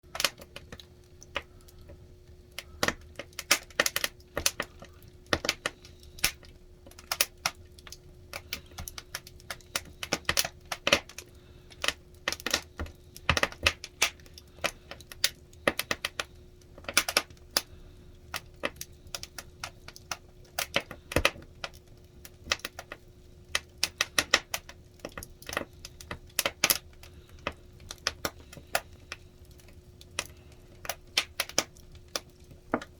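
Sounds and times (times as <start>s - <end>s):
firewood crackling and popping: 0.0s - 32.9s
faint low hum: 0.5s - 32.9s.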